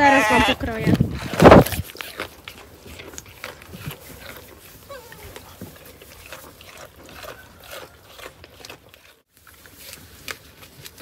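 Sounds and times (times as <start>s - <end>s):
goat chewing carrot: 0.6s - 11.0s.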